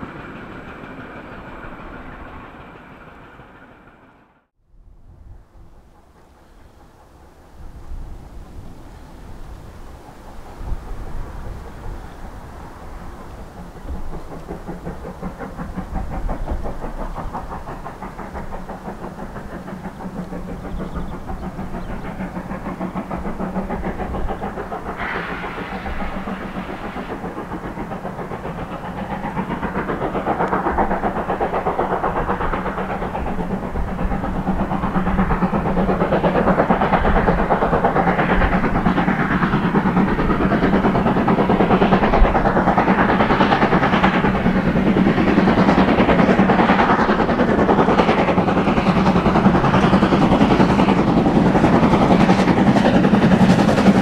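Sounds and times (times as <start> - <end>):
steam locomotive exhaust beats: 0.0 - 54.0.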